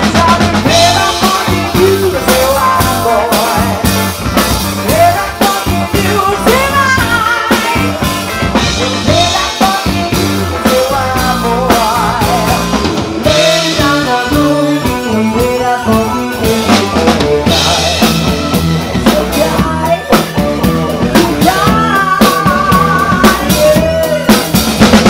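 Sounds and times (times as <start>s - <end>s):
woman singing into a microphone: 0.0s - 3.9s, 4.9s - 8.1s, 8.8s - 18.1s, 19.0s - 24.5s
drum kit steady beat: 0.0s - 25.0s
electric bass guitar: 0.0s - 25.0s.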